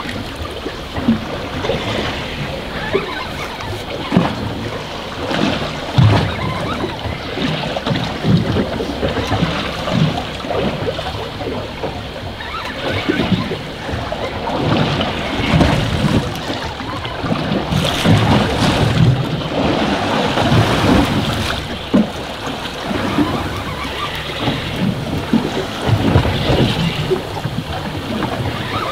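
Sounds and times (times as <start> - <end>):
waves washing against boat: 0.0 - 28.9
wind buffeting microphone: 0.0 - 28.9.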